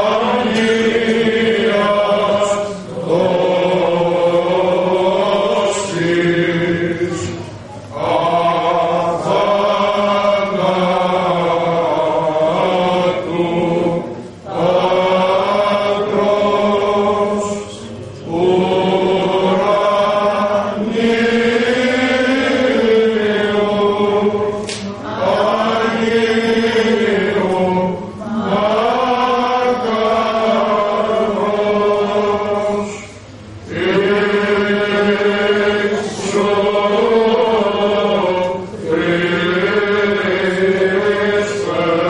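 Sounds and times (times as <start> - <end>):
men chanting a hymn: 0.0 - 42.0.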